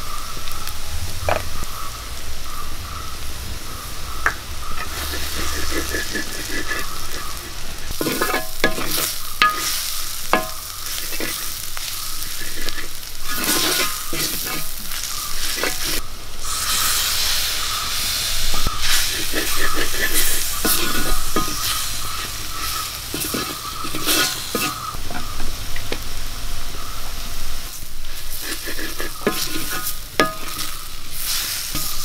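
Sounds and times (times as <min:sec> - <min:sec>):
onions sizzling in hot oil: 0:00.0 - 0:32.0
spatula scraping a pan: 0:04.2 - 0:25.5, 0:27.7 - 0:32.0.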